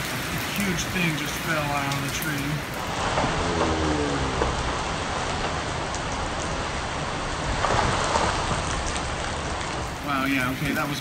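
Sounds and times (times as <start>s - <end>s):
heavy rain on trees: 0.0s - 11.0s.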